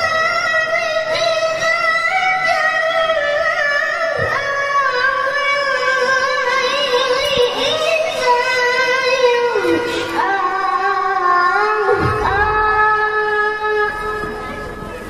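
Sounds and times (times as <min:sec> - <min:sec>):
boy reciting melodically: 0:00.0 - 0:15.0.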